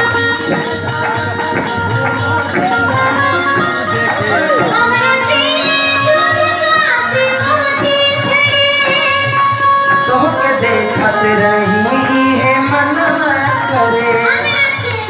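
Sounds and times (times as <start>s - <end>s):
fast high percussion pattern: 0.0s - 15.0s
gliding melody line: 0.0s - 15.0s
steady drum beat: 0.0s - 15.0s.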